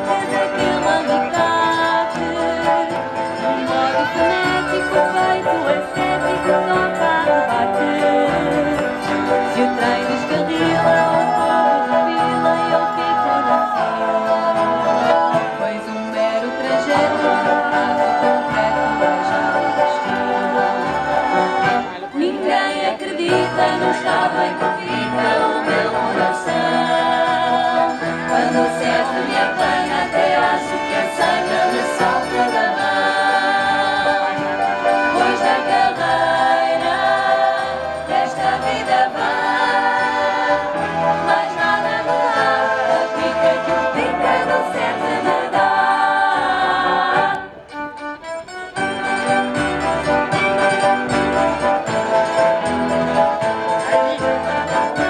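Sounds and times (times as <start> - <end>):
women singing together: 0.0 - 47.6
accordion: 0.0 - 55.0
guitar: 0.0 - 55.0
keyboard: 0.0 - 55.0
violin: 0.0 - 55.0.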